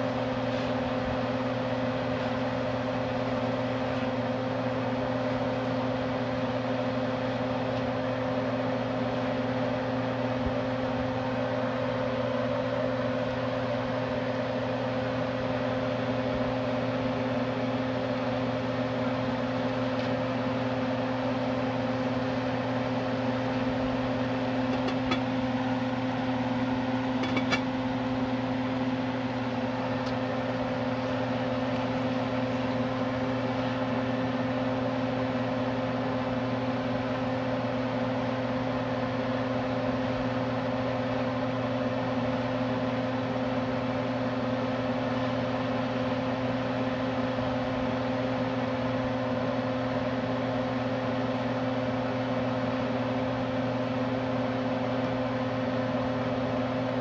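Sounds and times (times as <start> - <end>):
electric fan motor humming: 0.0 - 57.0.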